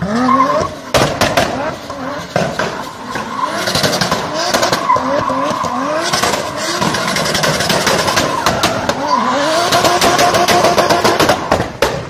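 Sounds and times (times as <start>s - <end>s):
tyres squealing on tarmac: 0.0s - 0.9s, 1.6s - 10.6s
car engine revving: 0.0s - 12.0s.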